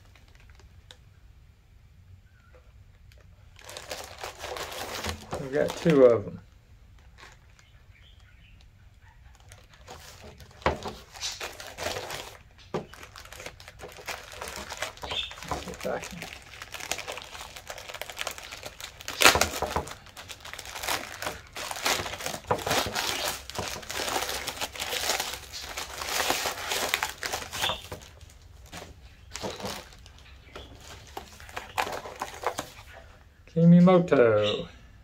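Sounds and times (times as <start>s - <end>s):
plastic rustling and crackling: 0.0s - 1.0s, 2.9s - 33.2s
plastic ripping: 3.1s - 6.4s, 7.0s - 8.3s, 9.3s - 33.0s.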